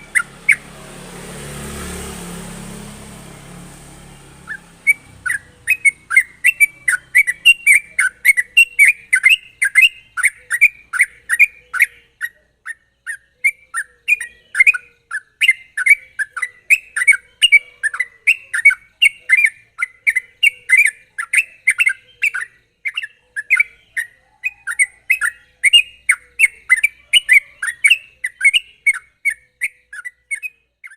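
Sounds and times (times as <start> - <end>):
bird singing rapid chirps: 0.0 - 30.9.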